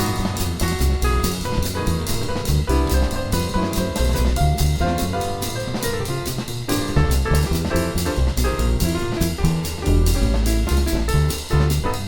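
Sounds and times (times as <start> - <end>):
acoustic piano: 0.0 - 12.0
double bass notes: 0.0 - 12.0.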